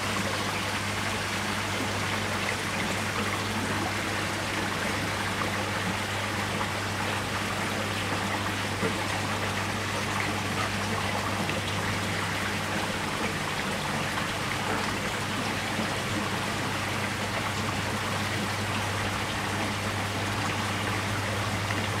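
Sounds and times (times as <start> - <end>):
pump humming: 0.0 - 22.0
water running and trickling: 0.0 - 22.0.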